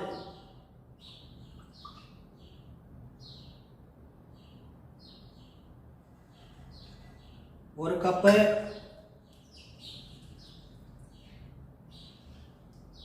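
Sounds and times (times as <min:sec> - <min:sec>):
small bird chirping: 0:00.0 - 0:07.6, 0:08.6 - 0:13.0.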